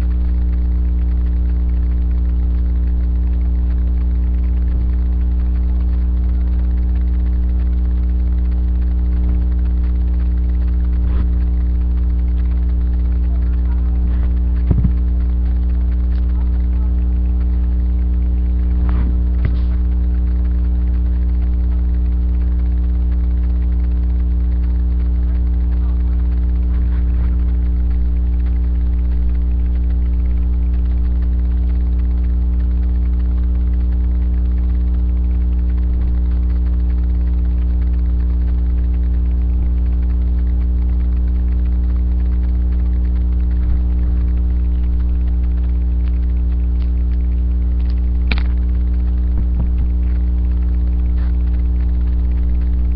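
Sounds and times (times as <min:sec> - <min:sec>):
loud electrical mains hum: 0:00.0 - 0:52.9
faint clicks: 0:00.1 - 0:52.9.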